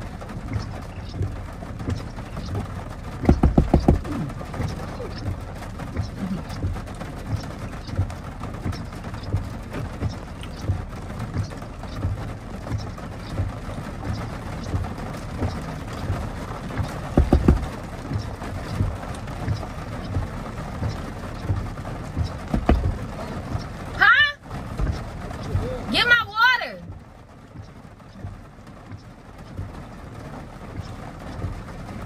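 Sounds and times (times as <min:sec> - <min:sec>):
heavy rain thumps: 0:00.0 - 0:32.0
rain drumming on car roof: 0:00.0 - 0:32.0.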